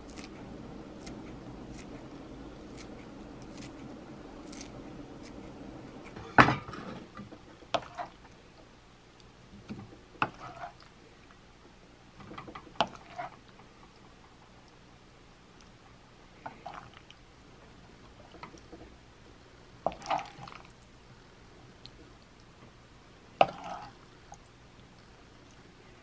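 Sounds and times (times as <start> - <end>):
low steady background: 0.0 - 26.0.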